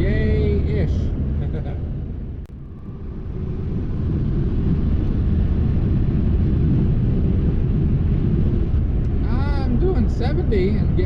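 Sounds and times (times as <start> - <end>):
motorhome engine and road noise: 0.0 - 11.0.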